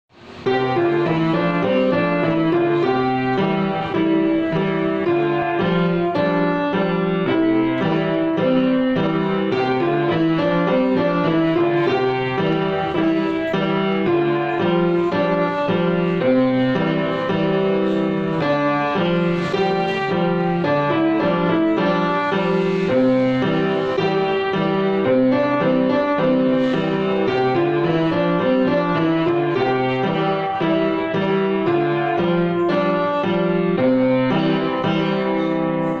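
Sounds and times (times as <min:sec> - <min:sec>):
grand piano playing: 0:00.1 - 0:36.0.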